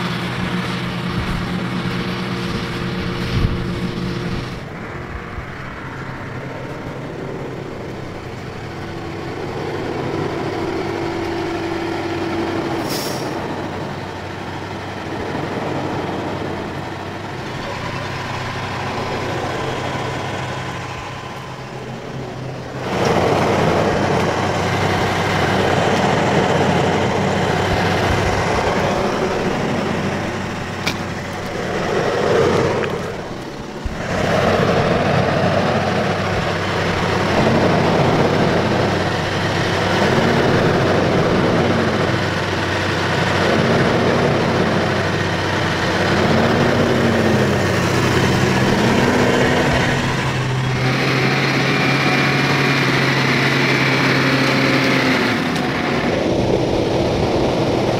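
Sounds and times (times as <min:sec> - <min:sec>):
tractor diesel engines working: 0:00.0 - 0:57.9.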